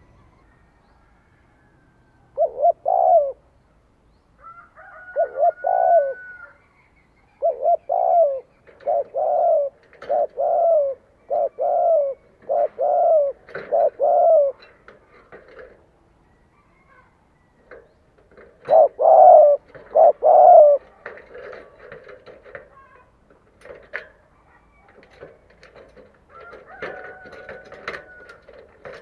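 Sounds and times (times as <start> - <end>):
dove cooing: 2.0 - 3.5, 4.4 - 6.6, 7.3 - 29.0.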